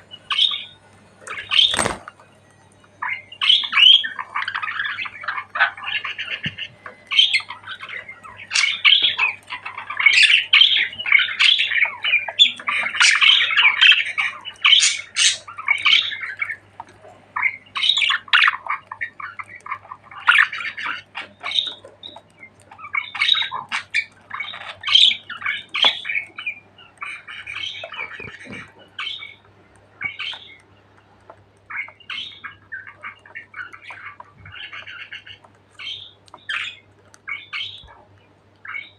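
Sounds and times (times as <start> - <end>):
budgerigars chattering: 0.0 - 2.1, 3.0 - 38.9.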